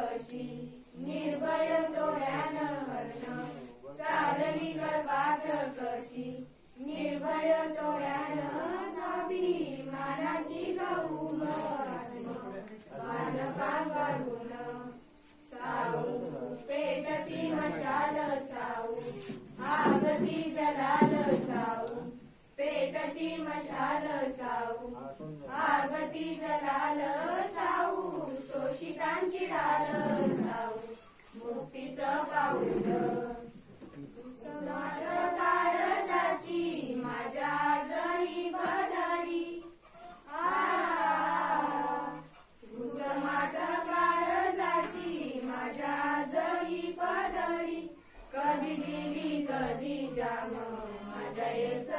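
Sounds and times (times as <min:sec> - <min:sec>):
girls singing together: 0:00.0 - 0:51.9.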